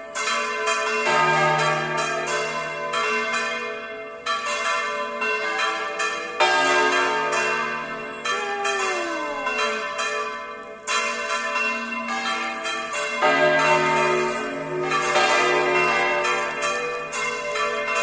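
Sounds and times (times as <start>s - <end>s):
church bells clanging: 0.0s - 18.0s.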